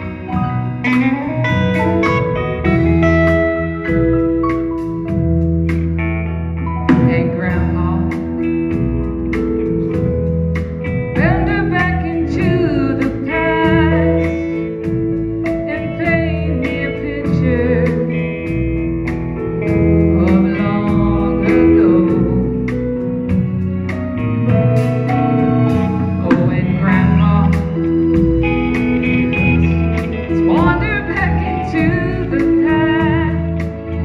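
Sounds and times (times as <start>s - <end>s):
bending lead melody line: 0.0s - 34.0s
live country band playing: 0.0s - 34.0s.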